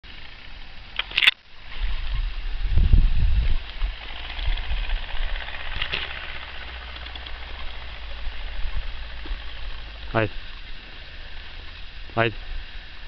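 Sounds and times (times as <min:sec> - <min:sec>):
faint steady hiss: 0:00.1 - 0:13.0
wind buffeting microphone: 0:01.6 - 0:13.0.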